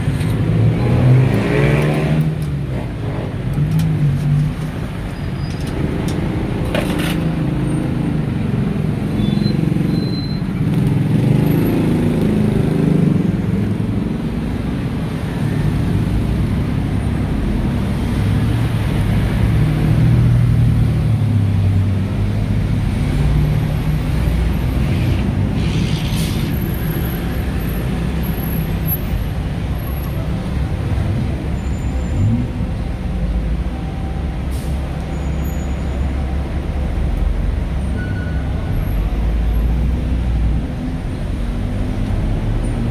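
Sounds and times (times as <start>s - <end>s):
road traffic rumble: 0.0s - 42.9s.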